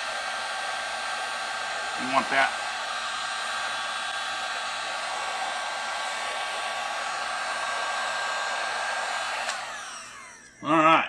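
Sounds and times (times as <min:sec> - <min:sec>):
heat gun blowing: 0:00.0 - 0:10.6.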